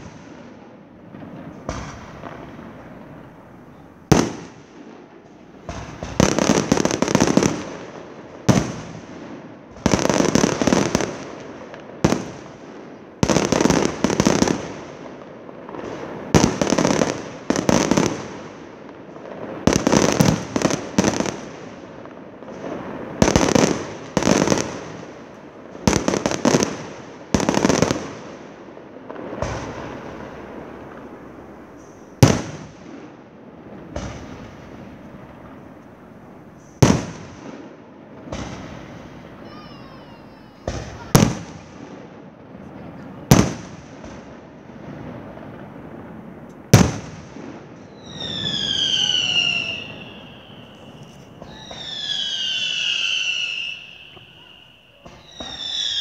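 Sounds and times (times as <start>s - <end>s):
crackling firework pops: 0.0s - 39.6s, 40.5s - 56.0s.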